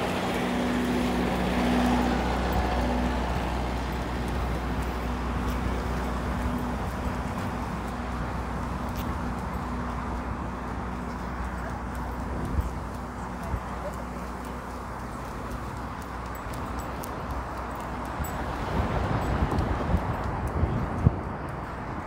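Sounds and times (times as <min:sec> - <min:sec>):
idling engine hum: 0:00.0 - 0:22.0
street traffic: 0:00.0 - 0:22.0.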